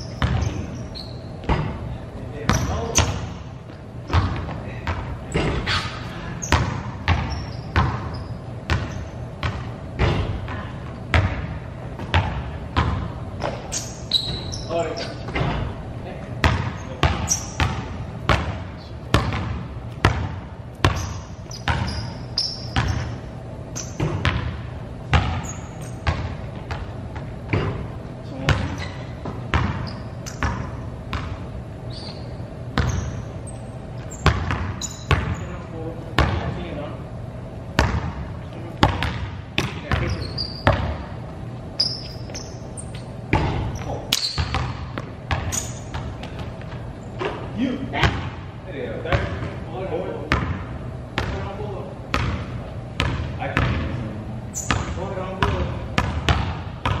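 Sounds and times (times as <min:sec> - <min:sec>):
sneaker squeaks: 0:00.0 - 0:36.5, 0:37.8 - 0:48.4, 0:52.1 - 0:57.0
basketball bouncing on gym floor: 0:00.0 - 0:36.8, 0:37.7 - 0:57.0.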